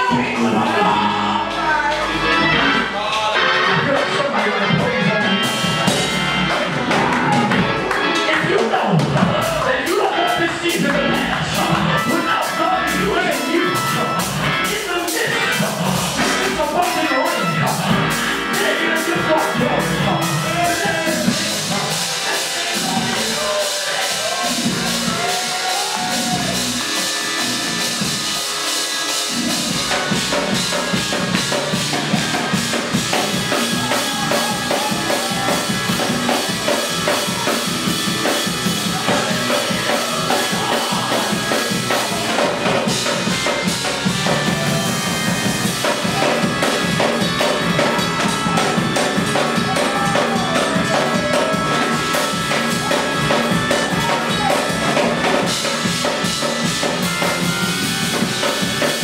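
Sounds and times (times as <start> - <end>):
drum kit: 0.0 - 59.0
upbeat band music: 0.0 - 59.0.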